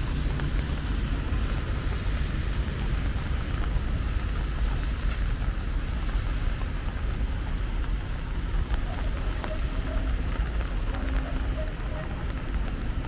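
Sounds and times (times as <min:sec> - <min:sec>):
raindrops ticking: 0:00.0 - 0:13.0
steady rain falling: 0:00.0 - 0:13.0.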